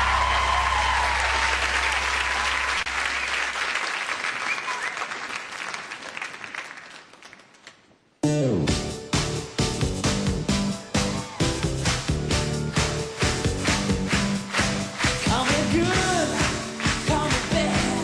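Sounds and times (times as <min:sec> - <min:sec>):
audience applauding: 0:00.0 - 0:07.8, 0:11.1 - 0:18.0.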